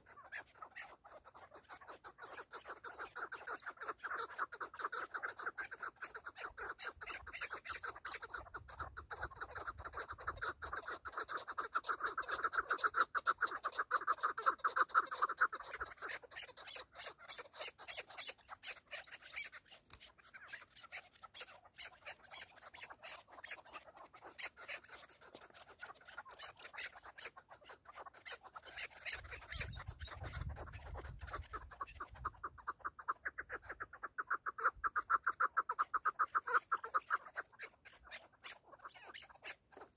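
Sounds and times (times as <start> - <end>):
partridges clucking chatter: 0.0 - 39.9.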